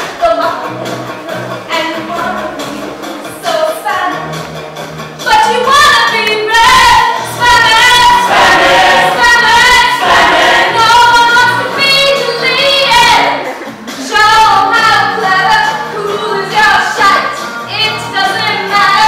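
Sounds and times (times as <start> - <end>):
backing music: 0.0 - 19.0.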